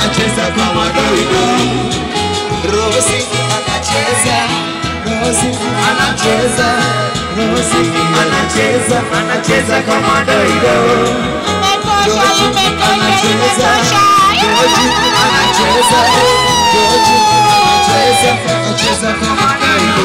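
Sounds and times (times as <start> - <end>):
dance music with singing: 0.0 - 20.0
repeating bass beat: 0.0 - 20.0.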